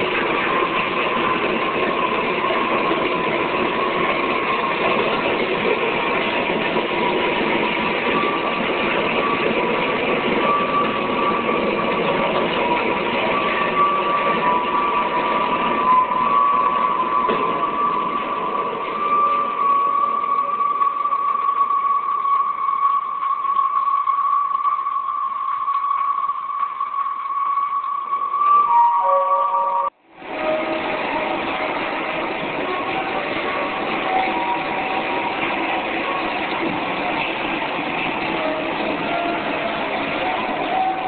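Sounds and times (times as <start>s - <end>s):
high held tones: 0.0s - 41.0s.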